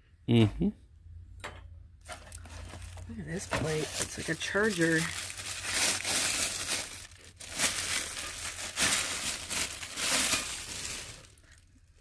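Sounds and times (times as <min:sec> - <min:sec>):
plastic wrap crinkling: 0:02.0 - 0:12.0.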